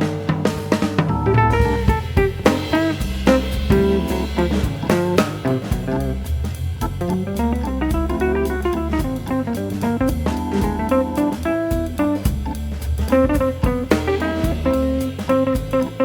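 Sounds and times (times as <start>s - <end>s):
guitar tune with bass and drums: 0.0s - 16.0s.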